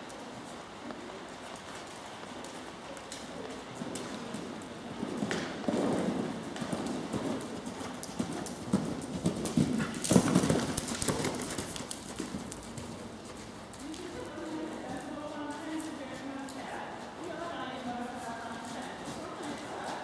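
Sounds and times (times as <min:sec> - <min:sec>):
horse hooves on sand: 0:00.0 - 0:20.0.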